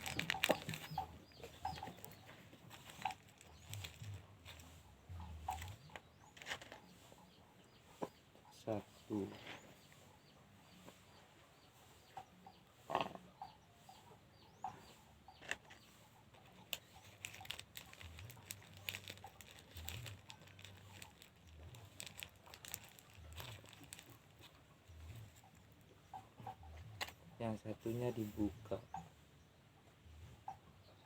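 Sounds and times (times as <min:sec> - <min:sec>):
faint chicken sounds: 0:00.0 - 0:31.0.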